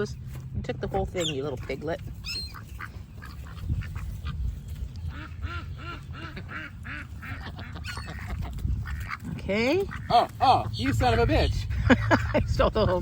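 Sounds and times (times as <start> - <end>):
wind rumble on microphone: 0.0 - 13.0
ducks quacking: 1.0 - 13.0.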